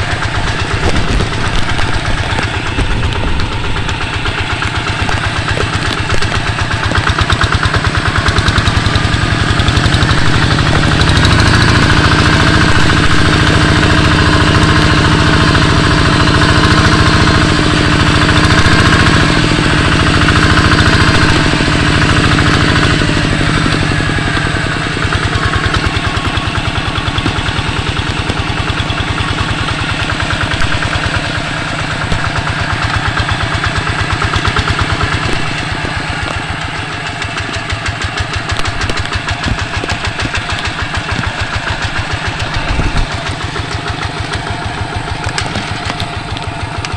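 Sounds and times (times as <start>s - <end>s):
hand tractor engine chugging: 0.0s - 46.9s.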